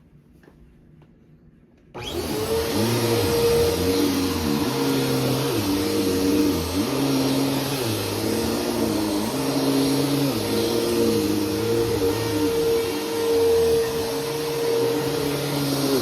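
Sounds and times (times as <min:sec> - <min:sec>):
upright vacuum cleaner running: 0:02.0 - 0:16.0.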